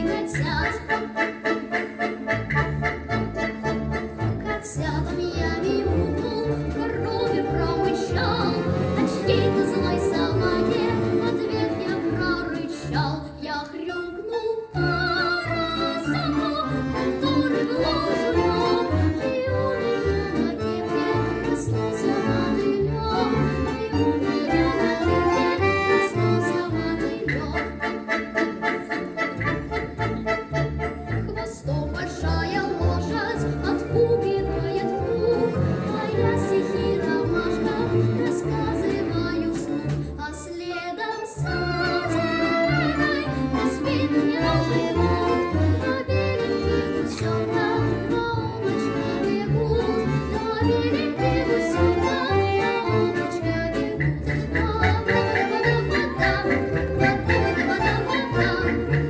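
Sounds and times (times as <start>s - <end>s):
accordion: 0.0s - 59.0s
folk instrument orchestra: 0.0s - 59.0s.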